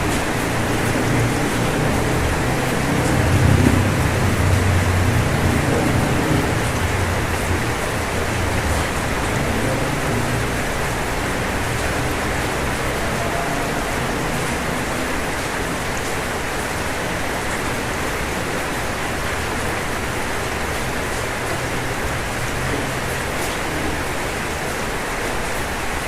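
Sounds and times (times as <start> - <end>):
rain falling on a roof: 0.0 - 26.0.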